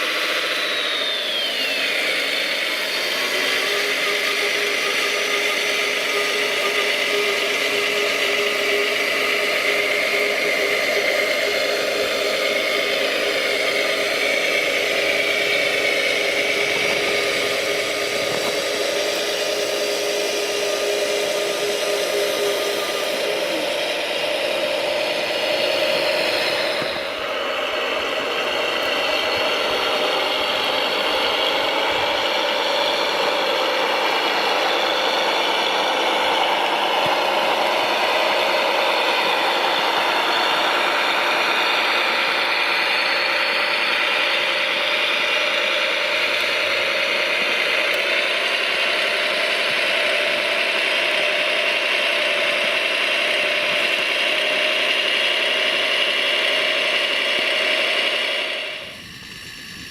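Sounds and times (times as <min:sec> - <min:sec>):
machine mechanical whine: 0:00.0 - 0:59.9.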